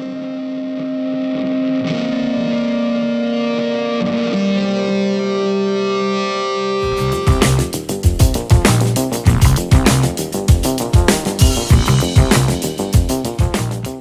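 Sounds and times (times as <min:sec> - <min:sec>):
held guitar chords: 0:00.0 - 0:14.0.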